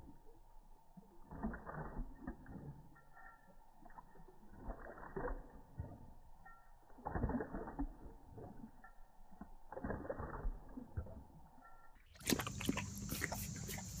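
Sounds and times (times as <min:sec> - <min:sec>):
dog lapping water from bowl: 0:00.0 - 0:14.0.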